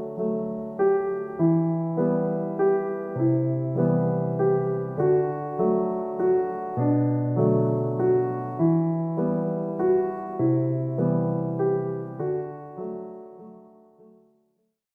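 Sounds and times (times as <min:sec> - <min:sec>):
gentle solo piano: 0:00.0 - 0:14.5.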